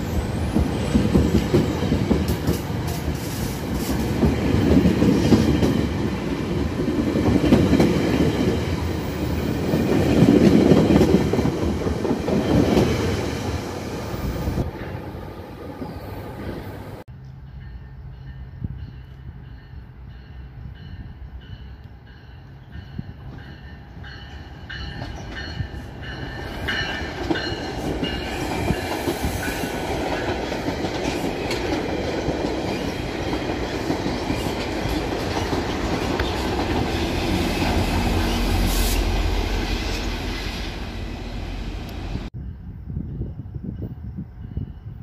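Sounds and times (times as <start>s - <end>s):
train passing: 0.0s - 45.0s.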